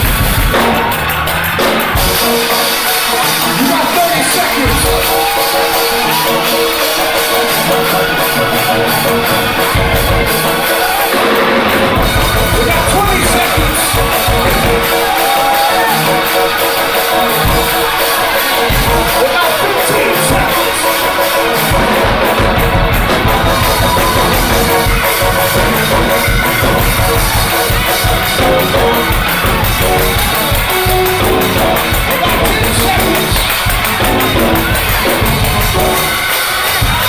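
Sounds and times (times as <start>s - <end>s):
live gospel band with drums: 0.0s - 37.0s
voices singing: 0.0s - 37.0s.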